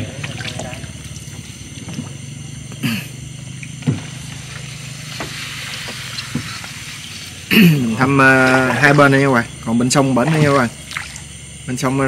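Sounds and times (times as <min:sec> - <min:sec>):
small boat engine running: 0:00.0 - 0:12.0.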